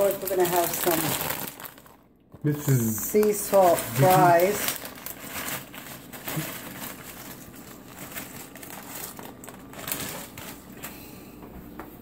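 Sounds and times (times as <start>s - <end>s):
chip bag rustling: 0.0s - 11.2s.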